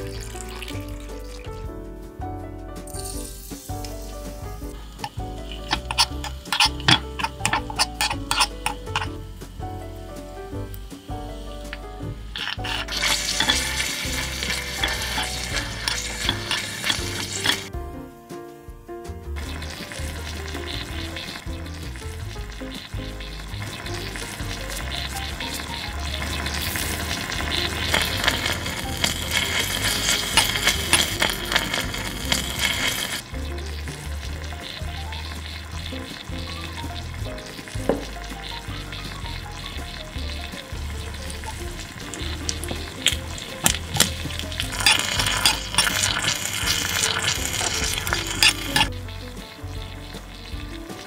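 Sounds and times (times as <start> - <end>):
food sizzling in a wok: 0.0 - 1.6, 2.9 - 17.8, 19.3 - 51.0.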